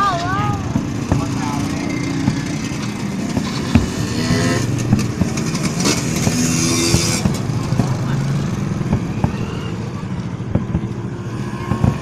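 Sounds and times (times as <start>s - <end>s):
fireworks popping and crackling: 0.0s - 12.0s
motorbike engines revving: 0.0s - 12.0s.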